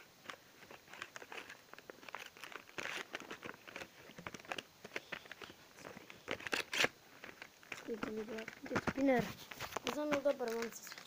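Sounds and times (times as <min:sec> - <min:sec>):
crinkly rustling of handled objects: 0:00.0 - 0:11.0.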